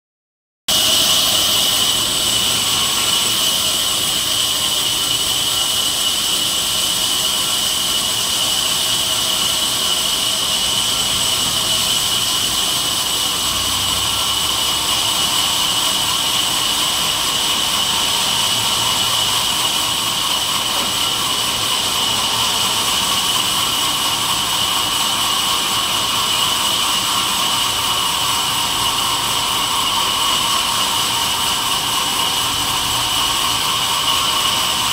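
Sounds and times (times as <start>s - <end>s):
bandsaw high-pitched whine: 0.7s - 34.9s.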